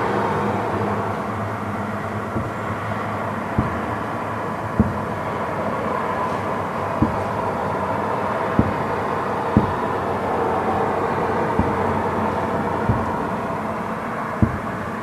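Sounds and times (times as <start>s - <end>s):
background rumble: 1.0s - 15.0s
fireworks booming: 1.8s - 15.0s.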